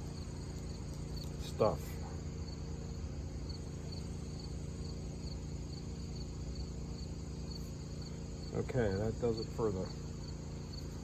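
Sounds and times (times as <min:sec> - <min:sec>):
cricket chirping: 0:00.0 - 0:11.0
steady low hum: 0:00.0 - 0:11.0.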